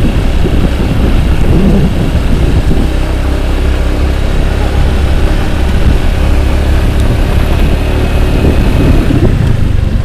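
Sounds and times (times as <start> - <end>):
motor scooter engine rumbling: 0.0 - 10.0.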